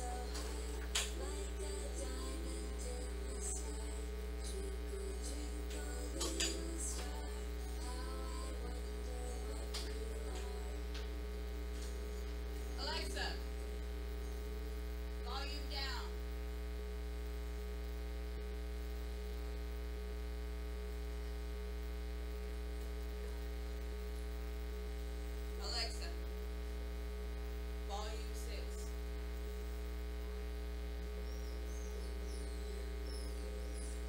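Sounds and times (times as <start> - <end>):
electrical mains hum: 0.0 - 34.0
faint pulsing tone: 0.0 - 34.0.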